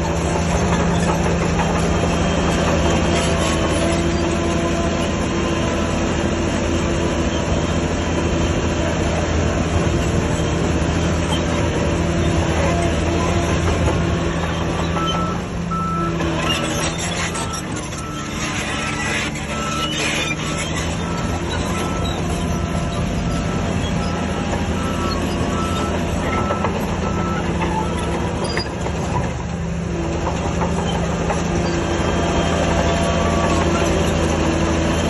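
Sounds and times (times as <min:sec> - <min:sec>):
bulldozer diesel engine: 0:00.0 - 0:35.0
steel tracks clanking and squealing: 0:00.0 - 0:35.0.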